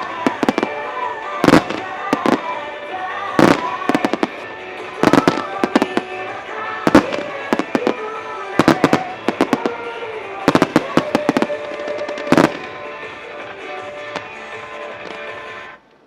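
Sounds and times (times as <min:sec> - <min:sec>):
firework bangs: 0:00.0 - 0:15.7
music: 0:00.0 - 0:15.9.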